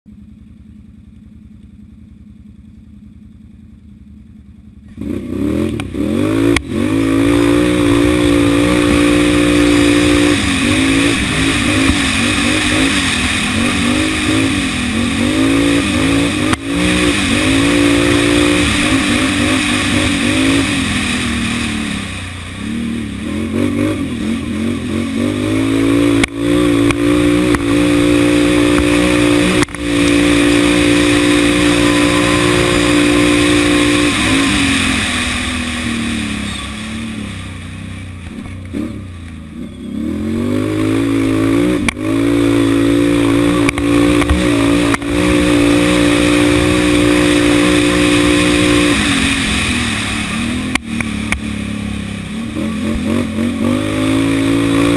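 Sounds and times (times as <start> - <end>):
quad engine revving: 4.9 - 54.9.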